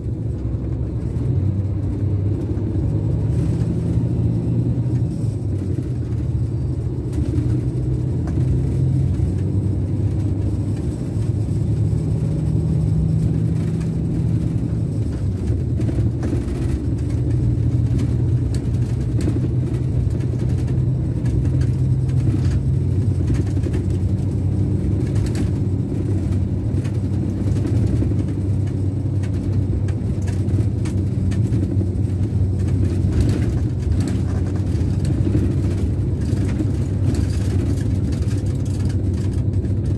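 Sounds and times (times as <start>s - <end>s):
bus diesel engine running: 0.0s - 39.9s
road noise: 0.0s - 39.9s.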